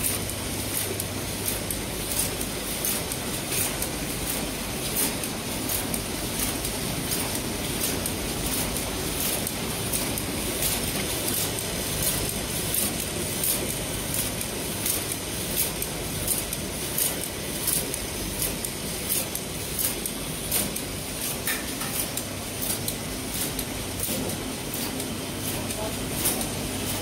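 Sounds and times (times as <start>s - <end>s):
packing machine running: 0.0s - 27.0s.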